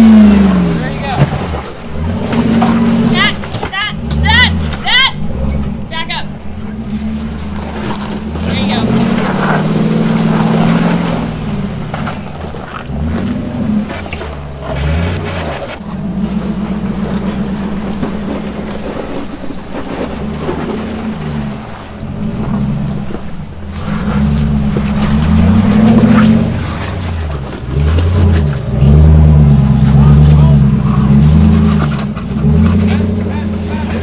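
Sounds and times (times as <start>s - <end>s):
vehicle engine revving: 0.0s - 34.0s.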